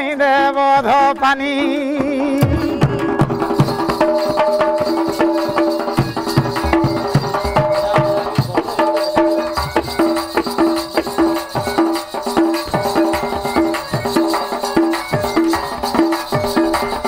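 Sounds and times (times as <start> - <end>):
repeating folk melody: 0.0 - 17.0
drum strokes: 0.8 - 17.0.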